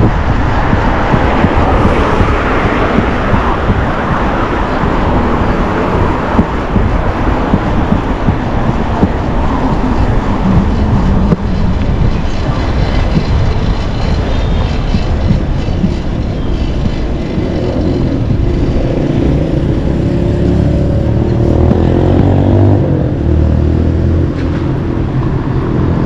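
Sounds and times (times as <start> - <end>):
street rumble: 0.0 - 26.0
wind buffeting microphone: 0.0 - 26.0.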